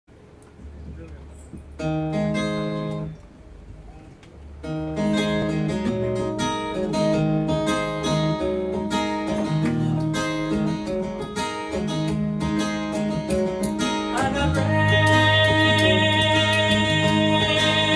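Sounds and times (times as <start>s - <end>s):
strummed acoustic guitar: 1.8s - 3.2s, 4.6s - 17.9s.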